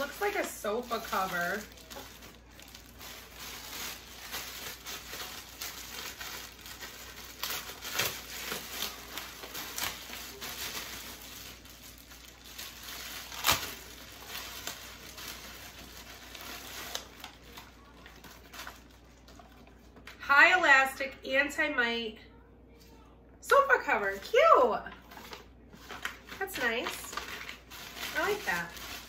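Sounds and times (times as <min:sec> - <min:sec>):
plastic bag crinkling: 0:00.0 - 0:20.1, 0:24.1 - 0:29.0.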